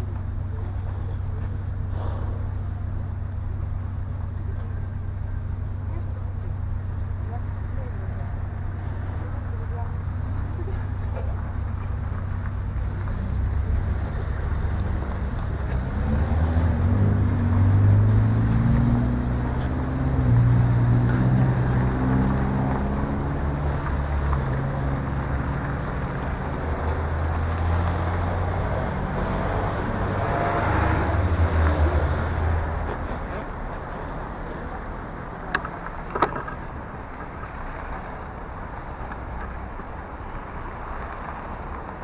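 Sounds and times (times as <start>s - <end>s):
road noise: 0.0s - 42.0s
vehicle engine drone: 0.0s - 42.0s.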